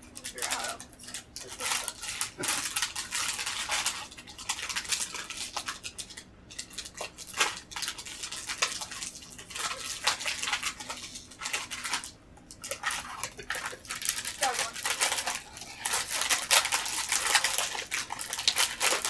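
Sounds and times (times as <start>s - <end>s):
plastic wrapper crinkling: 0.1s - 19.0s.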